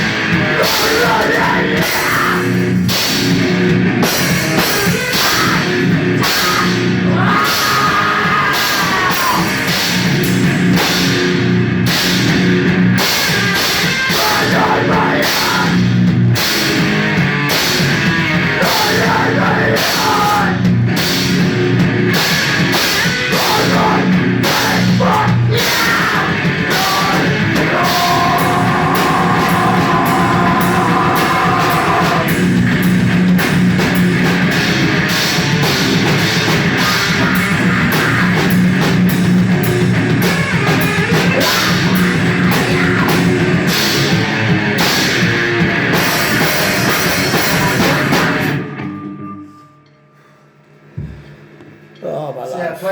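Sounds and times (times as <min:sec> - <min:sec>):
rock band playing metal: 0:00.0 - 0:50.0.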